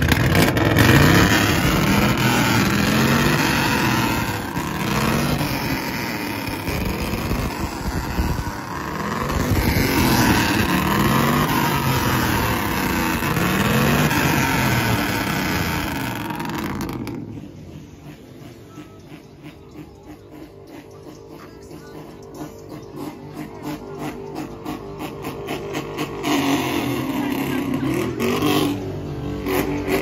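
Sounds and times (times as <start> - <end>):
pickup truck engine revving: 0.0 - 30.0.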